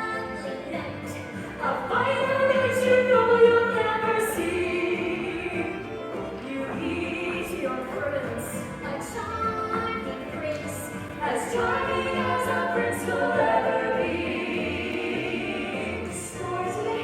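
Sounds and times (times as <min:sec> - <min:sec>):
orchestra: 0:00.0 - 0:17.0
singers holding long notes: 0:00.0 - 0:17.0.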